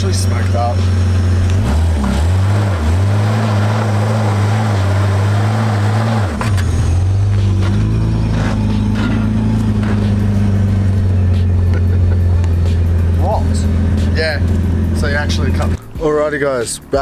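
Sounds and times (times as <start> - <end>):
car engine driving: 0.0 - 17.0.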